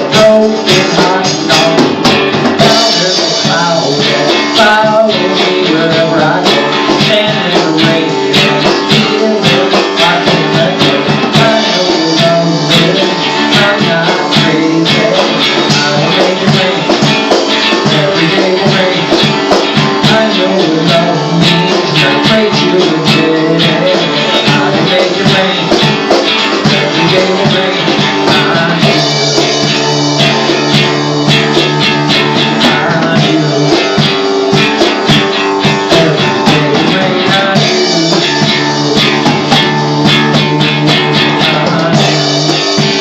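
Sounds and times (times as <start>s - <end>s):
strummed guitar instrumental: 0.0s - 43.0s.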